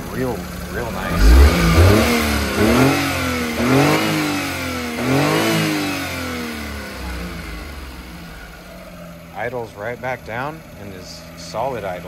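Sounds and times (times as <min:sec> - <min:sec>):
engine revving and idling: 0:00.0 - 0:12.0.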